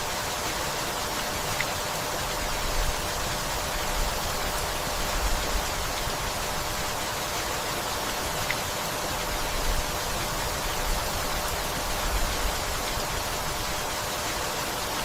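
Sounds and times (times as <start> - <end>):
rain on leaves and wooden house: 0.0 - 15.0.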